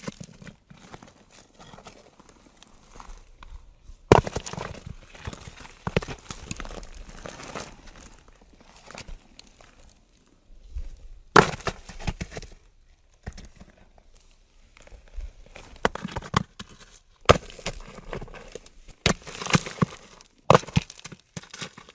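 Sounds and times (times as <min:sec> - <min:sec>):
rock cracking: 0:00.0 - 0:10.0, 0:10.7 - 0:21.9.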